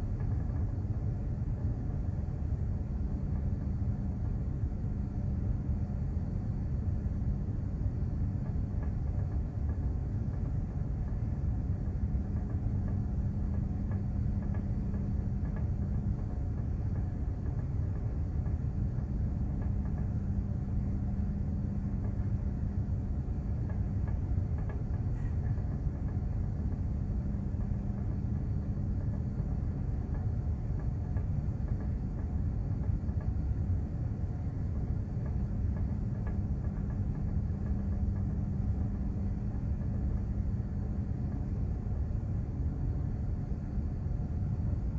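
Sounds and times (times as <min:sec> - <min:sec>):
constant low hum: 0:00.0 - 0:44.9
ship low rumble: 0:00.0 - 0:44.9.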